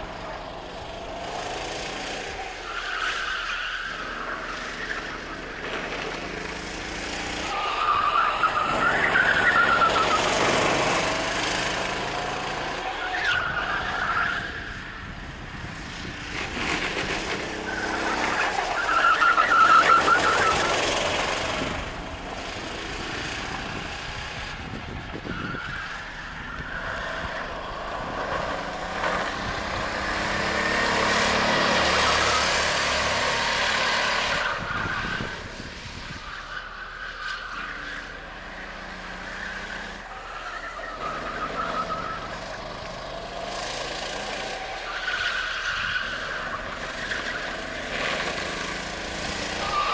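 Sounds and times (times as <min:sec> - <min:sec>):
go-kart engines buzzing: 0:00.0 - 0:49.9.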